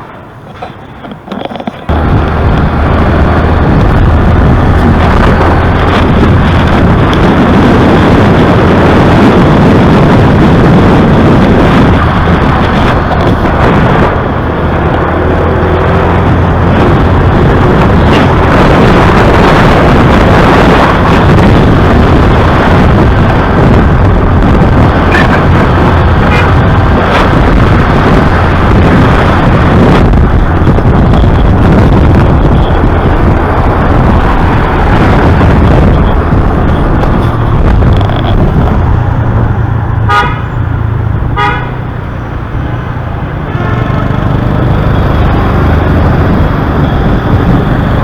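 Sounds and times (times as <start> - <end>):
motorbike engine rumble: 0.0 - 48.0
street noise: 0.0 - 48.0
wind on microphone: 0.0 - 48.0.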